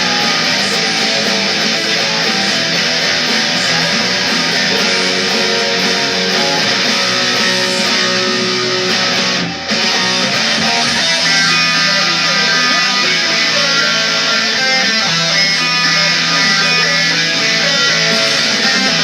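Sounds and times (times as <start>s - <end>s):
rock music with electric guitar: 0.0s - 19.0s.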